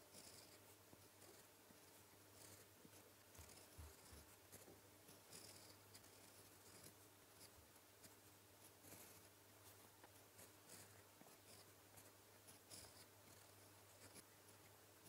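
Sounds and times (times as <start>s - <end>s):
pen nib scratching paper: 0.0s - 15.0s.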